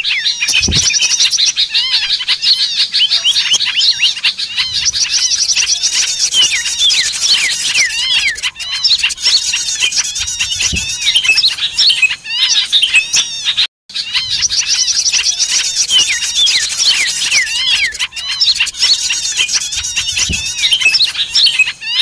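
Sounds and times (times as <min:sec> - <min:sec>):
small birds chirping and trilling: 0:00.0 - 0:22.0.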